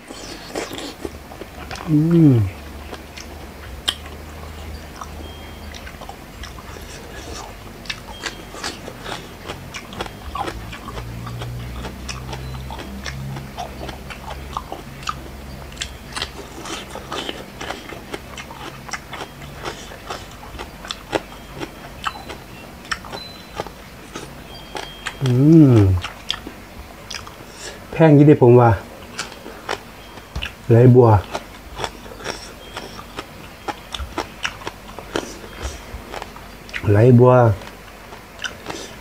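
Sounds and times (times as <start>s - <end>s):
crunchy chewing: 0.0s - 27.9s, 28.8s - 39.0s
low steady hum: 0.0s - 39.0s.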